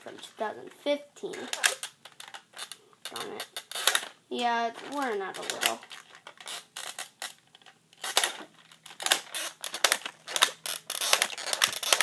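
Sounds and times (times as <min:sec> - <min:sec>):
plastic toy clicks and knocks: 0:01.3 - 0:12.0.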